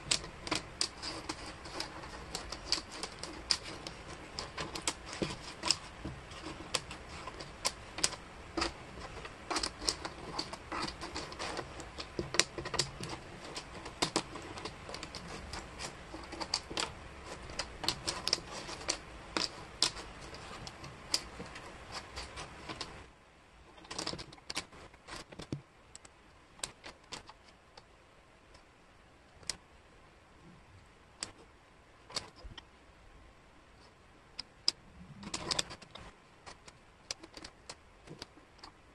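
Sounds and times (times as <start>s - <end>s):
wooden jigsaw pieces clacking: 0.0s - 23.1s, 23.7s - 27.9s, 32.1s - 32.6s, 34.4s - 38.8s.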